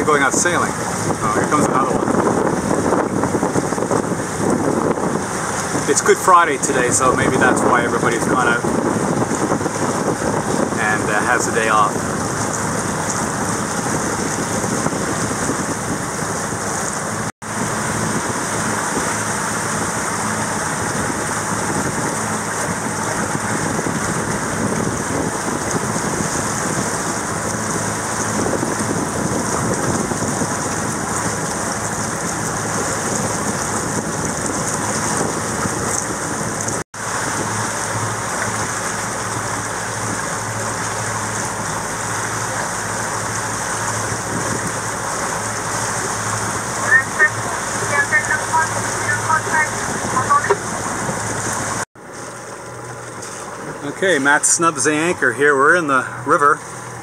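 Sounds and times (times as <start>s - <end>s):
boat engine hum: 0.0s - 57.0s
steady rushing noise: 0.0s - 57.0s.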